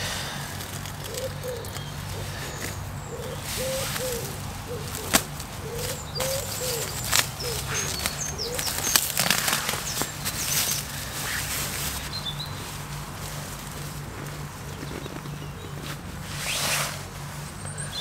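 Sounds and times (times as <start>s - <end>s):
pigeon cooing: 0.0s - 12.0s, 13.7s - 16.5s
small birds chirping: 0.0s - 18.0s.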